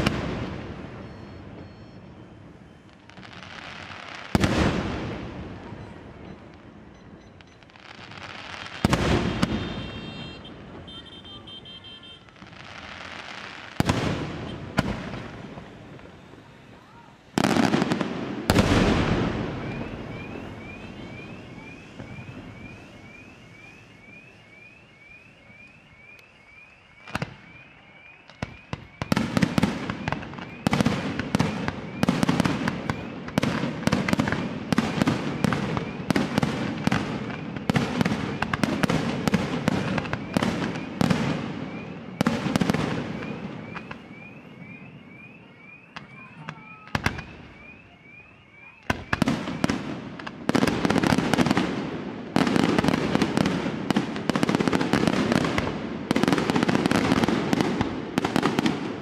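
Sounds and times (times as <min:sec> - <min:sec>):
firework bangs and crackle: 0:00.0 - 0:59.0.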